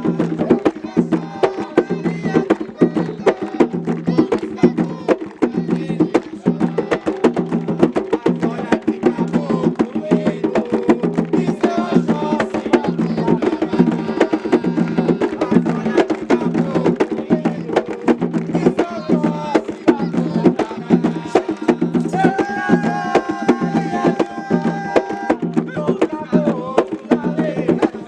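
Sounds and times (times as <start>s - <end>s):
hand drums beating fast rhythm: 0.0s - 28.0s
voices singing: 0.0s - 28.0s.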